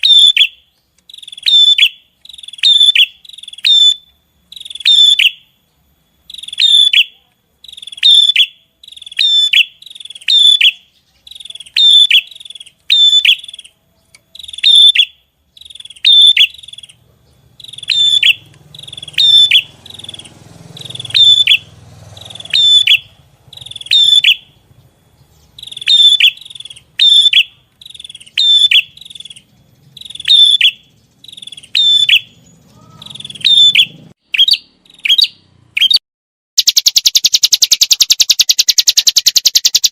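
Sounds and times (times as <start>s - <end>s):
songbird chirping: 0.0s - 36.0s, 36.6s - 39.9s.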